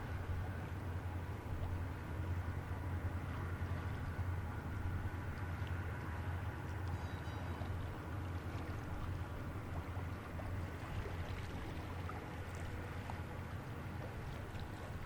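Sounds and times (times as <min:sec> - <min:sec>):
ship diesel engines humming: 0:00.0 - 0:15.0.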